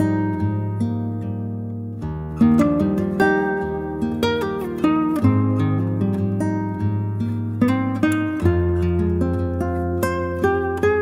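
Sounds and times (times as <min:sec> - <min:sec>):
gentle melody: 0:00.0 - 0:11.0.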